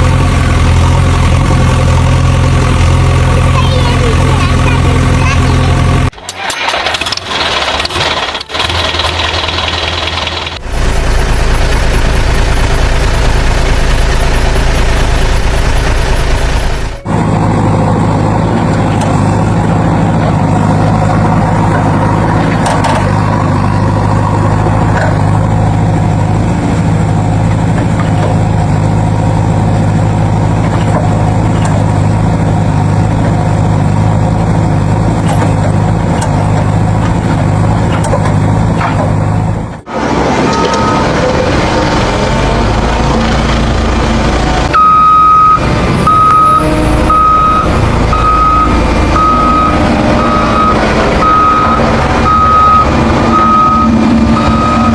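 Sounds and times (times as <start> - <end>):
heavy vehicle engine running: 0.0 - 54.9.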